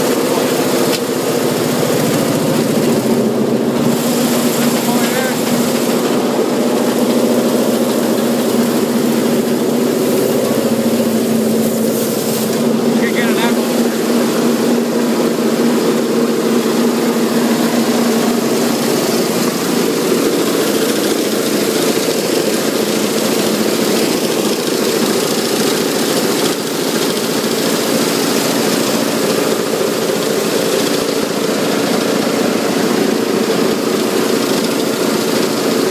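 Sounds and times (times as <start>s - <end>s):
crushing machinery drone: 0.0s - 35.9s.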